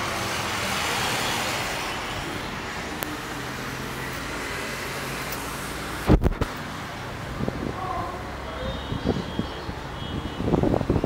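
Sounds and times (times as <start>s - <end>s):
cars buses and motorbikes passing: 0.0s - 11.0s.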